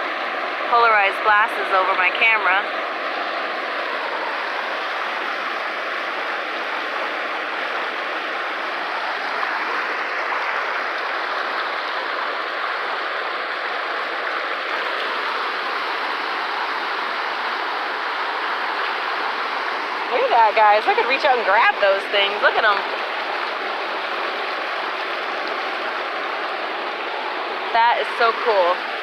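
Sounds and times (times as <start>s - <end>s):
water rushing through pools: 0.0s - 29.0s.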